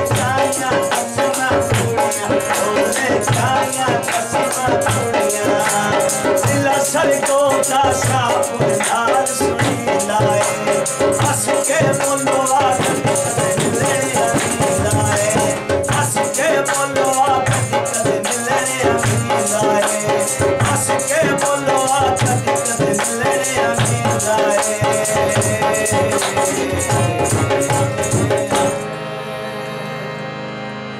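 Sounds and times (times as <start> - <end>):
man singing folk song: 0.0 - 28.8
rattling percussion beat: 0.0 - 28.9.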